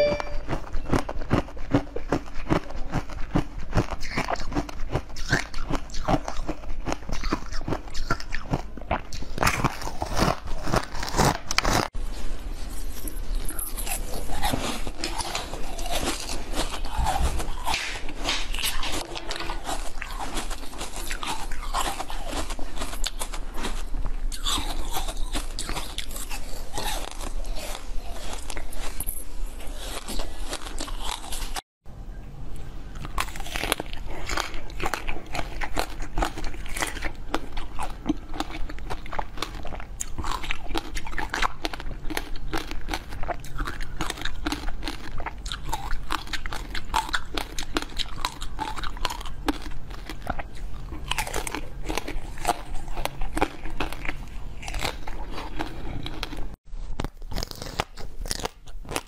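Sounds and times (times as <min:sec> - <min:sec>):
person chewing crunchy sweets: 0:00.0 - 0:31.6, 0:32.9 - 0:59.0.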